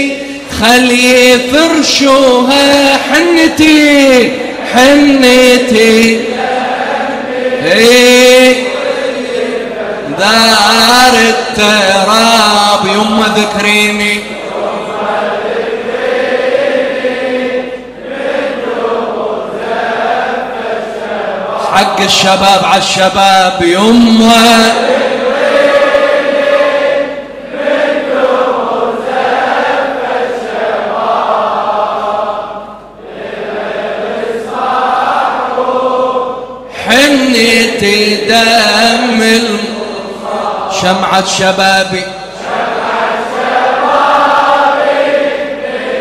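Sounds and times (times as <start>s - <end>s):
men chanting in unison: 0.0s - 46.0s.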